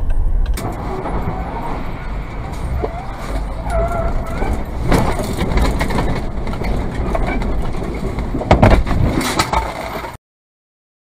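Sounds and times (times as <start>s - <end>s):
road and engine noise in truck cab: 0.0s - 10.2s
loud bangs and rattles of crash: 0.3s - 10.1s.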